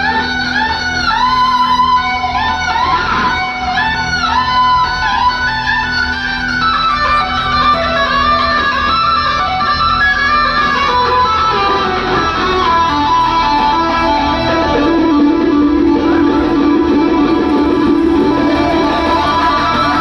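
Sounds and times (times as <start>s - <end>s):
electric guitar lead: 0.0s - 20.0s
lower guitar part: 0.0s - 20.0s.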